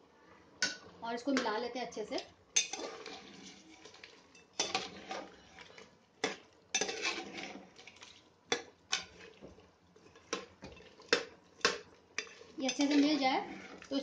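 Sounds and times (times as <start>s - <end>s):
metal spoon scraping a pot: 2.2s - 14.0s.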